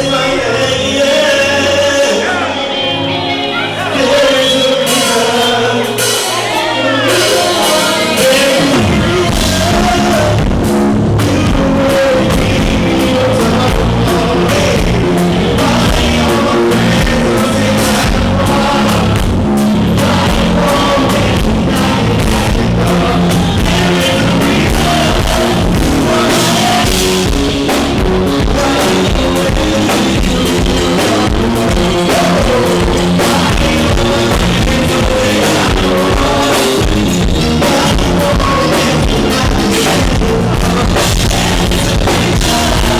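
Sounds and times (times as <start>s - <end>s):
live rock band playing: 0.0s - 42.9s
person singing: 0.0s - 42.9s.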